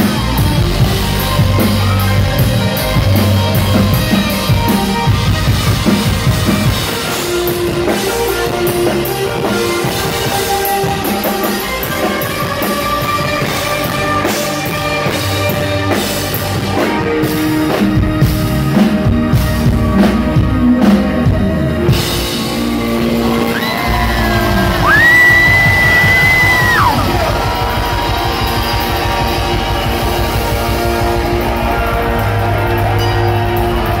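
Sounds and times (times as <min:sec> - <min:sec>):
live rock band: 0:00.0 - 0:34.0.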